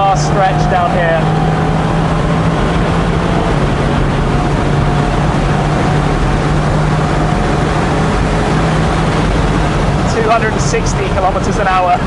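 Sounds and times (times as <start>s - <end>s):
car engine at high speed: 0.0s - 12.0s
heavy wind rush: 0.0s - 12.0s.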